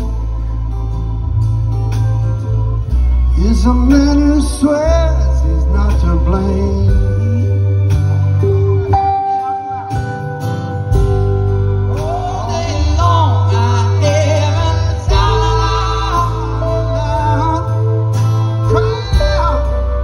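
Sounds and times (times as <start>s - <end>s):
acoustic guitar: 0.0s - 20.0s
drums: 0.0s - 20.0s
upright bass: 0.0s - 20.0s
person singing: 3.2s - 20.0s.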